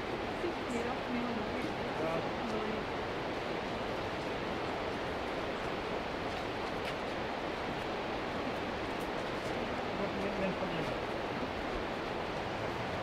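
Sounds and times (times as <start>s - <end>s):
river rushing roar: 0.0s - 13.0s.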